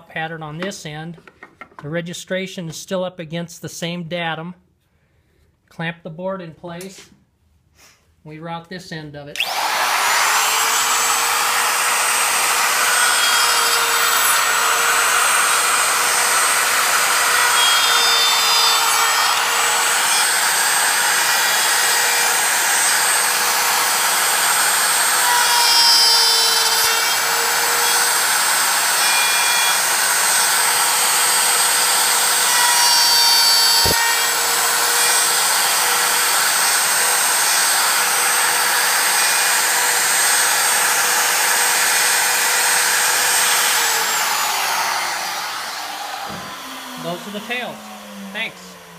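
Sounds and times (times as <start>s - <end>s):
router cutting wood: 9.4s - 48.9s.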